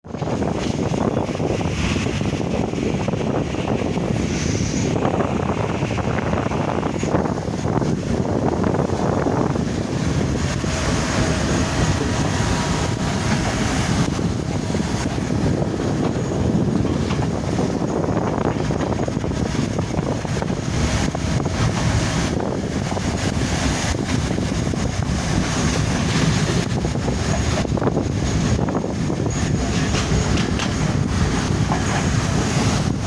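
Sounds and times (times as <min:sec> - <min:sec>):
train rumbling on rails: 0:00.0 - 0:33.0
wind buffeting microphone: 0:00.0 - 0:33.0.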